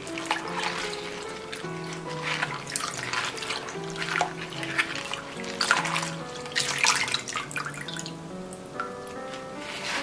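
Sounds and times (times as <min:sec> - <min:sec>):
water splashing in a glass bowl: 0:00.0 - 0:08.1
background music: 0:00.0 - 0:10.0.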